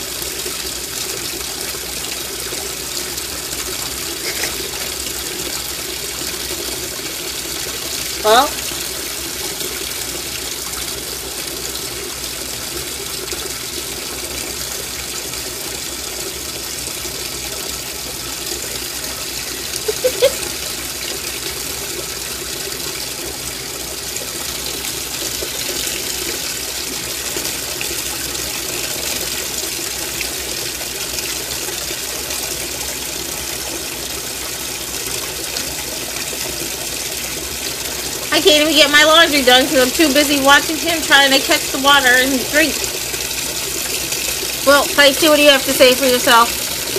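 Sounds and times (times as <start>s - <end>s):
water running into washing machine: 0.0s - 46.9s.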